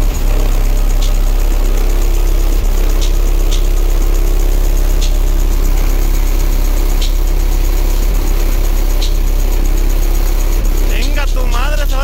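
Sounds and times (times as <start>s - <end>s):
subwoofers playing deep bass note: 0.0s - 12.0s.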